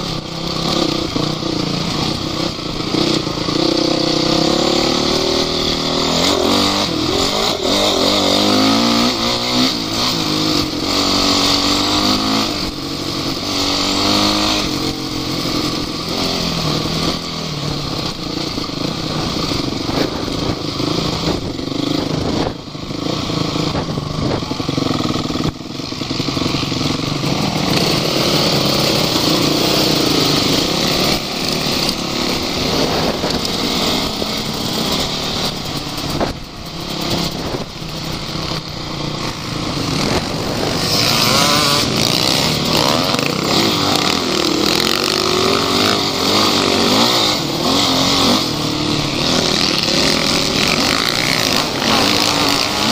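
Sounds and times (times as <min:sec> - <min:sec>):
vehicle engine revving: 0:00.0 - 0:52.9.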